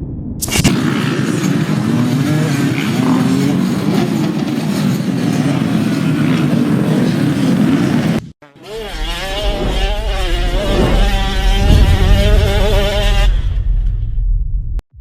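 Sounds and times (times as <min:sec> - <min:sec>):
two-stroke motorcycle engine revving: 0:00.7 - 0:13.6.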